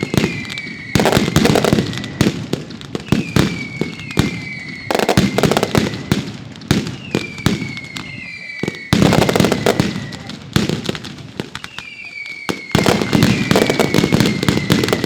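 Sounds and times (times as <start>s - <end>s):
firework whistles: 0.0s - 15.0s
fireworks bursting: 0.0s - 15.0s.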